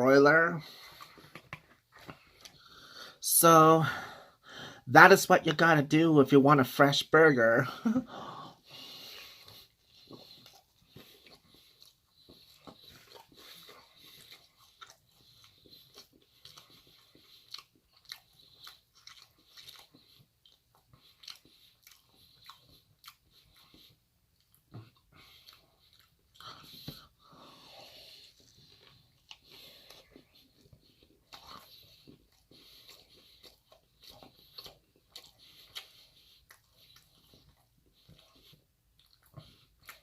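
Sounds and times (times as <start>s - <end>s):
person chewing and crunching food: 0.0s - 40.0s.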